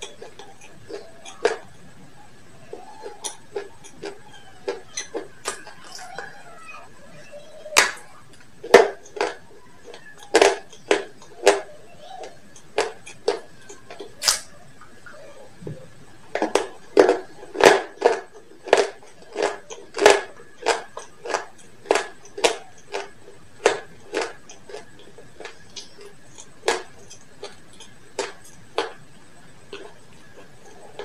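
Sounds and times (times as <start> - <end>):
crunchy chewing: 0.0 - 31.0.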